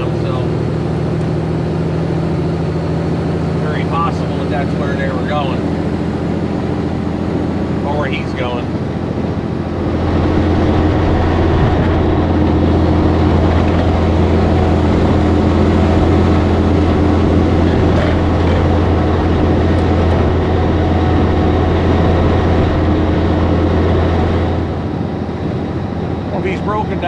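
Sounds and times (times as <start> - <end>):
road noise inside cab: 0.0 - 27.0
truck diesel engine drone: 0.0 - 27.0.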